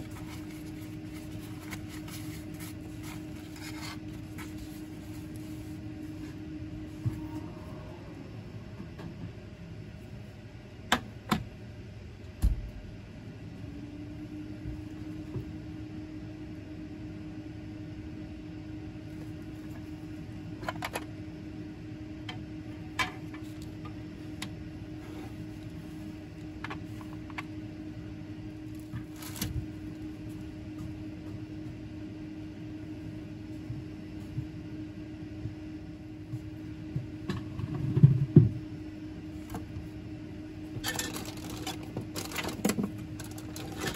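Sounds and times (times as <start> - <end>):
machine humming: 0.0 - 43.9.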